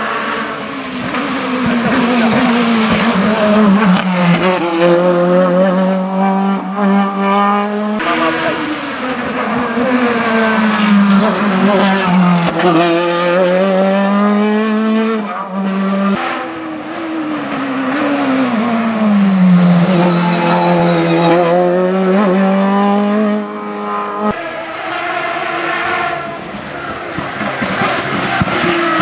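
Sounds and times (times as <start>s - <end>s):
race car engine at high revs: 0.0s - 29.0s.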